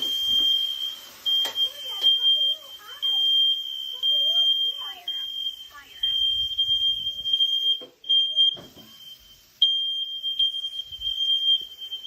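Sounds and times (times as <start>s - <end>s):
smoke alarm high tone: 0.0s - 12.0s.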